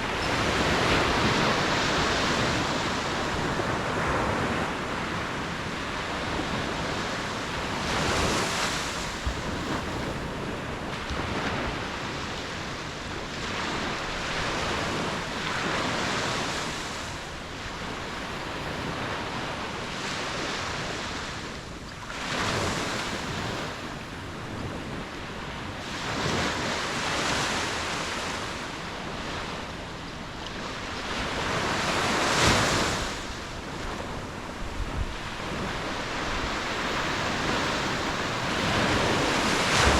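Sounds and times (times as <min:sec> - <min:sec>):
ocean waves breaking: 0:00.0 - 0:39.9
wind on microphone: 0:00.0 - 0:39.9.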